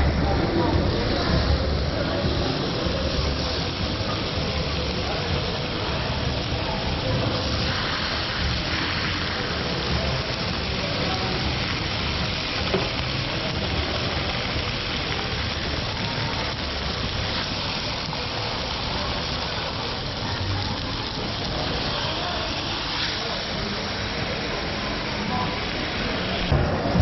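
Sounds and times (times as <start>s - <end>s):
meat sizzling on a grill: 0.0s - 27.0s
people talking: 0.0s - 27.0s.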